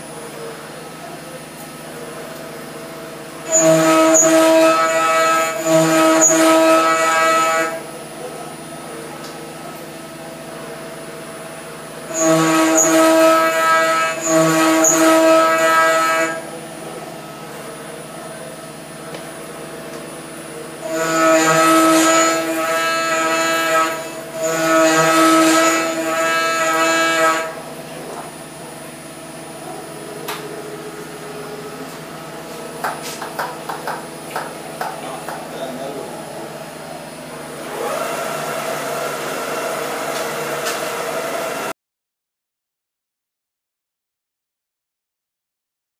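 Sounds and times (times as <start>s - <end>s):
machine running: 0.0s - 41.7s
router cutting metal: 2.3s - 9.1s, 9.9s - 32.9s, 33.5s - 41.7s.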